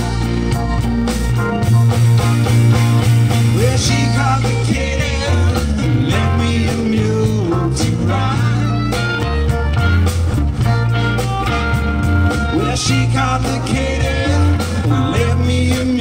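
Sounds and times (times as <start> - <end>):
wind instrument lead line: 0.0 - 6.6, 7.2 - 15.6
blues rock band playing: 0.0 - 16.0.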